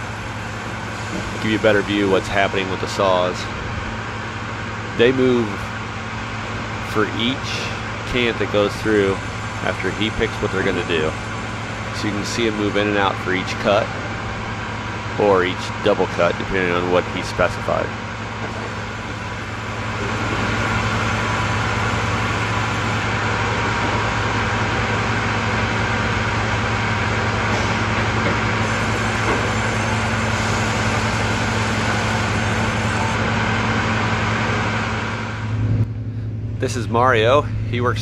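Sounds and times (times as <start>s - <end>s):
band saw machine running: 0.0s - 35.8s
low hum: 0.0s - 38.0s.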